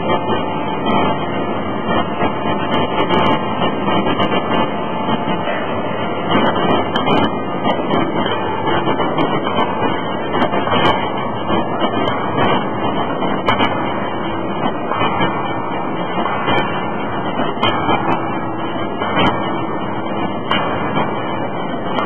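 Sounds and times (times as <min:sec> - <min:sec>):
loud machinery din: 0:00.0 - 0:22.0.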